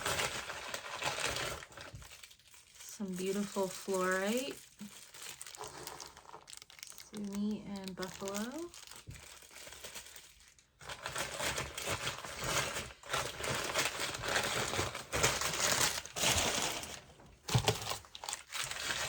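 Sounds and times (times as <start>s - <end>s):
packing wrap crumpling: 0.0s - 19.0s.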